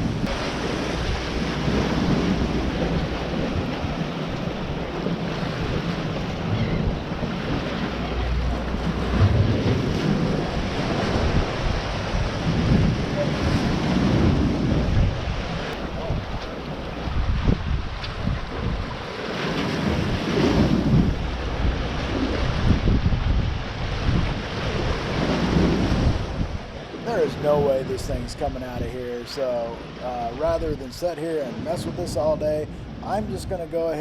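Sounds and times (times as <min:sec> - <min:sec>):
gusty wind buffeting microphone: 0:00.0 - 0:34.0
surf washing: 0:00.0 - 0:34.0.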